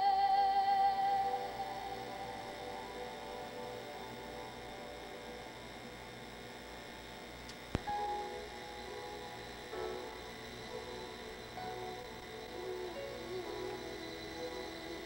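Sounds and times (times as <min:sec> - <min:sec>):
music: 0:00.0 - 0:07.2, 0:07.8 - 0:15.0
electrical hum with hiss: 0:00.0 - 0:15.0.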